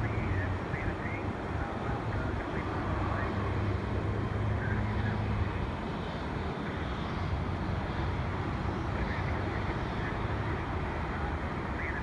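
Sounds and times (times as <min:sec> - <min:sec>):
distant aircraft and vehicle engines: 0:00.0 - 0:12.0.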